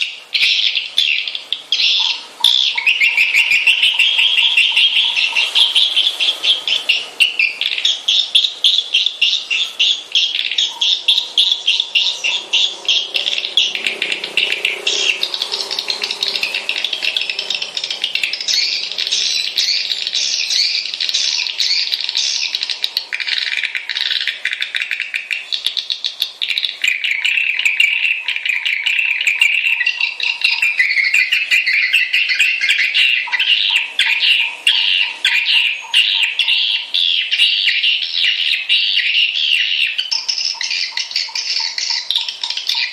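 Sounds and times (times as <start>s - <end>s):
rapid high-pitched bird chirps: 0.0s - 42.9s.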